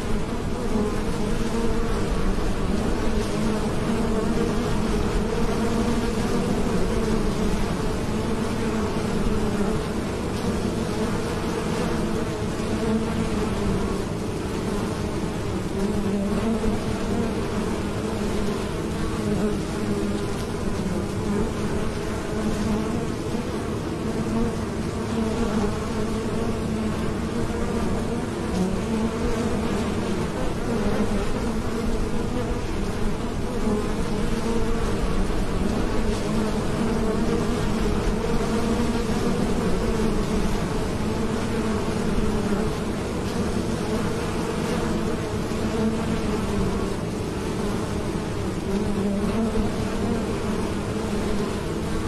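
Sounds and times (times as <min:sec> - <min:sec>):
honeybees buzzing: 0:00.0 - 0:52.0.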